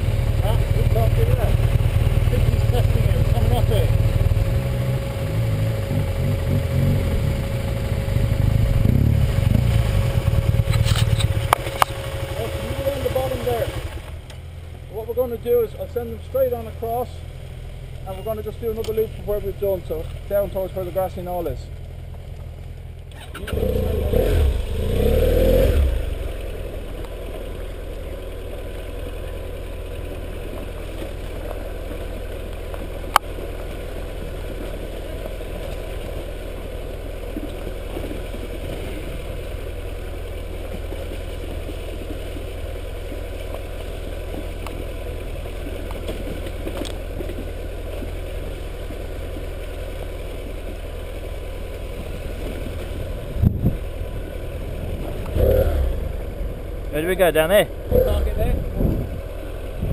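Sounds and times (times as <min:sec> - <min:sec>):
motorcycle engine revving: 0:00.0 - 0:15.4, 0:23.1 - 0:50.2, 0:51.1 - 0:59.9.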